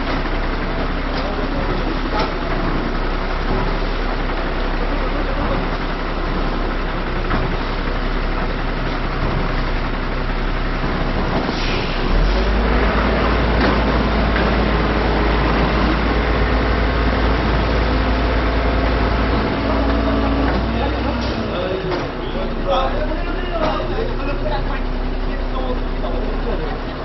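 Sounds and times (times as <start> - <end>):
diesel truck engine rumble: 0.0 - 27.0.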